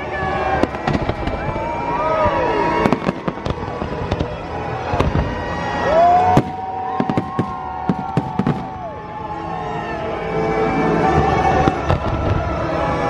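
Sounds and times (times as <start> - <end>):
fireworks whistling: 0.0 - 9.2, 11.0 - 13.0
fireworks bangs and crackles: 0.0 - 9.4, 11.0 - 13.0.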